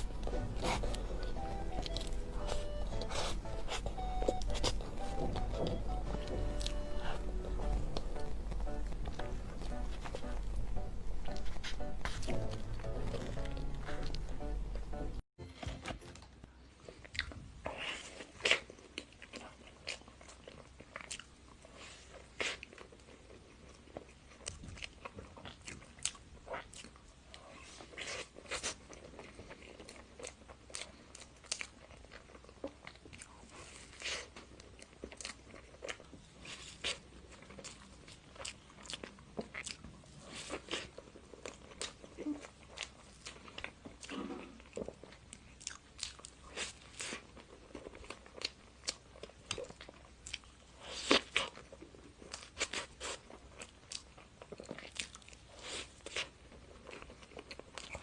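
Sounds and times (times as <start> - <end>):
person chewing crunchy food: 0.0 - 15.1, 15.8 - 58.0.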